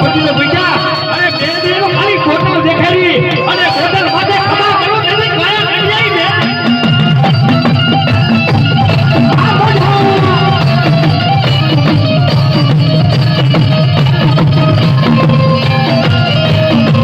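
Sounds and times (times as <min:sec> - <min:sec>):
music with drums: 0:00.0 - 0:17.0.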